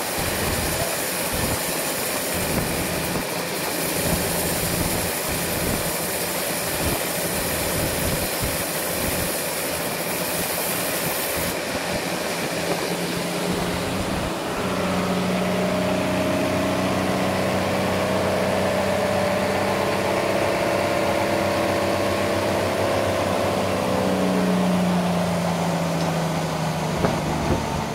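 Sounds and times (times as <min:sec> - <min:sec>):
sawmill engine running: 0:00.0 - 0:27.9.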